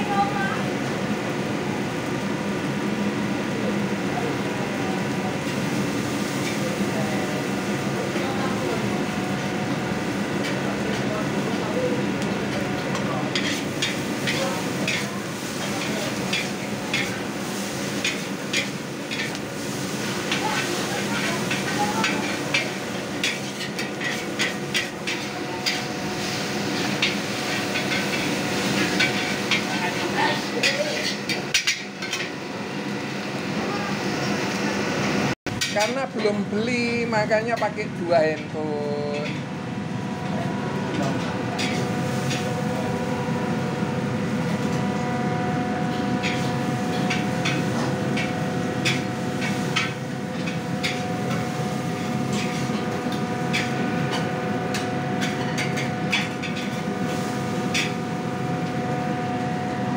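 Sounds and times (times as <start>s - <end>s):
gas wok burner roaring: 0.0s - 59.9s
kitchen exhaust humming: 0.0s - 59.9s.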